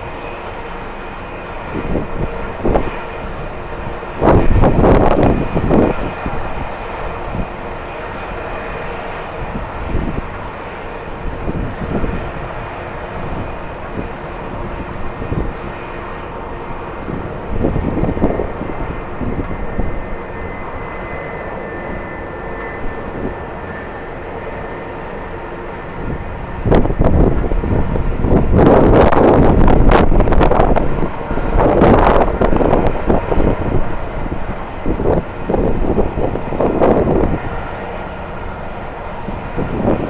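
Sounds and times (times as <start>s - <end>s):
jet engines running with whine: 0.0s - 40.0s
wind buffeting microphone: 0.0s - 40.0s.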